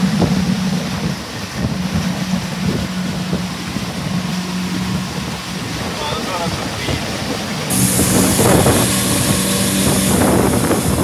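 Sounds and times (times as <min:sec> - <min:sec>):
boat motor humming: 0:00.0 - 0:11.0
wind on microphone: 0:00.0 - 0:11.0.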